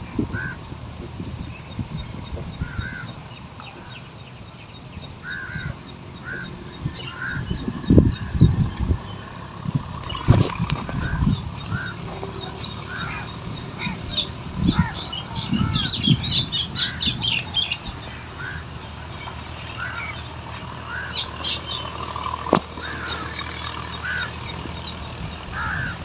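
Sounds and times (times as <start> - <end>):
bird chirps: 0.1 - 26.0
high quick bird twittering: 0.2 - 26.0.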